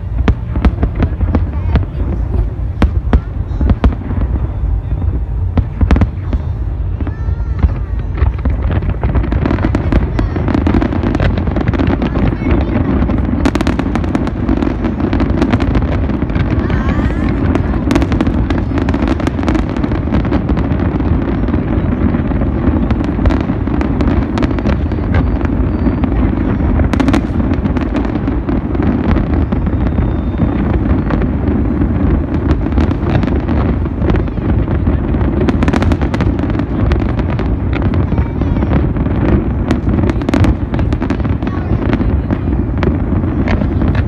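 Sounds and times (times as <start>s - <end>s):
fireworks bangs and booms: 0.0s - 44.0s
sharp firework cracks: 0.0s - 44.0s.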